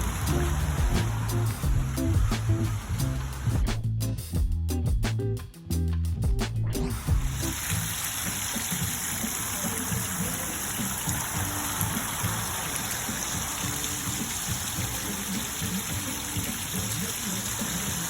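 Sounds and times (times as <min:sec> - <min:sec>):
rush of splashing water: 0:00.0 - 0:03.8, 0:06.9 - 0:18.0
soft music: 0:00.0 - 0:18.0.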